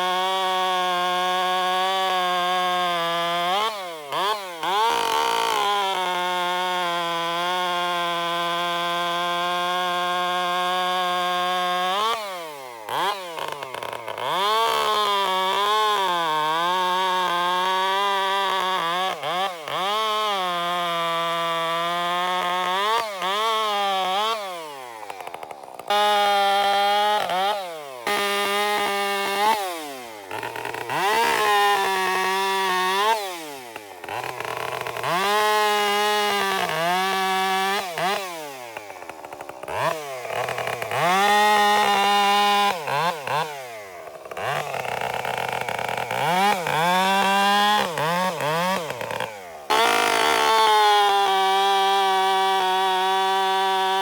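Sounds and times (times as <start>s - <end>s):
chainsaw revving under load: 0.0s - 54.0s.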